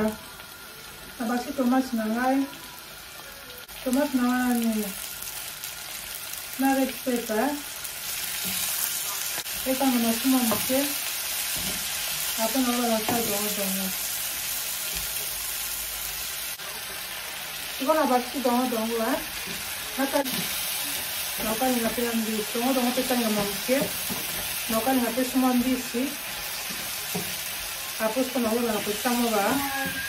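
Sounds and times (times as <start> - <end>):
onions and tomatoes sizzling: 0.0 - 30.0.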